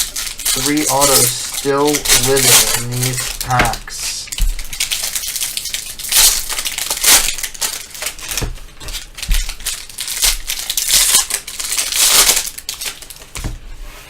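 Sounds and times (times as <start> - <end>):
foil wrappers tearing and crumpling: 0.0 - 13.4.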